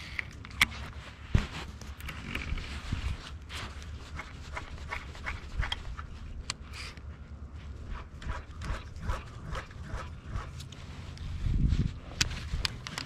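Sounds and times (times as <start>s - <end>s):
wind rumble on microphone: 0.9s - 6.5s, 7.3s - 13.0s.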